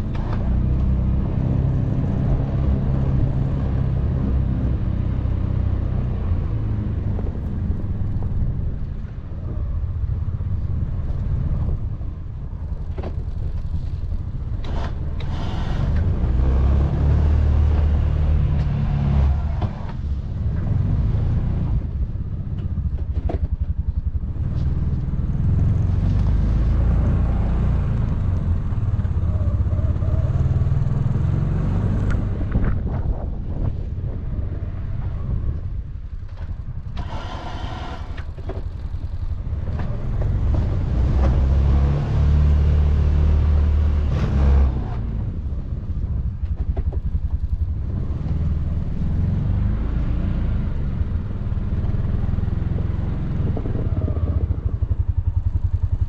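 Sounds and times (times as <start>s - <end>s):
vehicle engine under load: 0.0s - 56.0s.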